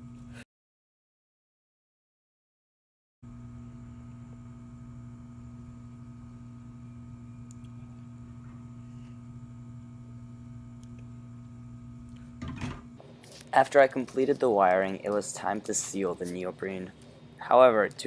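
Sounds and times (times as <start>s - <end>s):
electrical mains hum: 0.0s - 0.4s, 3.3s - 18.0s.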